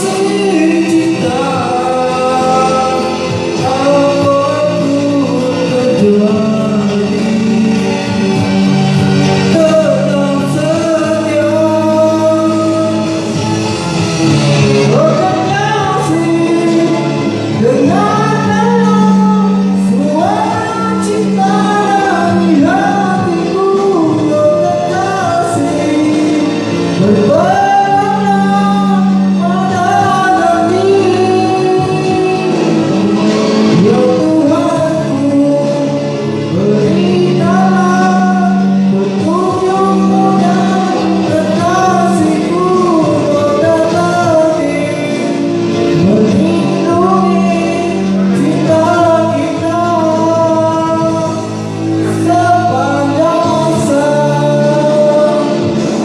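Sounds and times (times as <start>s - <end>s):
backing track music: 0.0s - 56.0s
person singing karaoke ballad: 0.0s - 56.0s.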